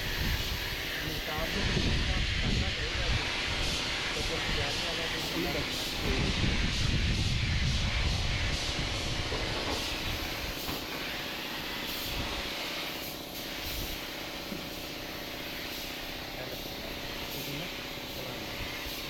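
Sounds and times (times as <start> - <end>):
steady hissing noise: 0.0 - 19.0.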